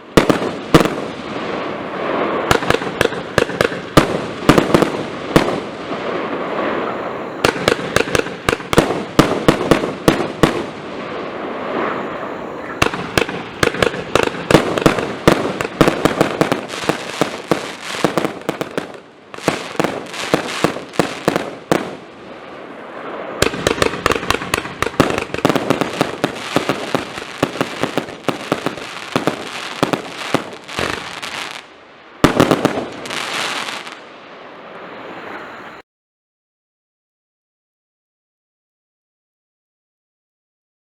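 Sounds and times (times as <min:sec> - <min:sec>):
firework shots and bursts: 0:00.0 - 0:34.1
firework crackling: 0:00.0 - 0:35.8.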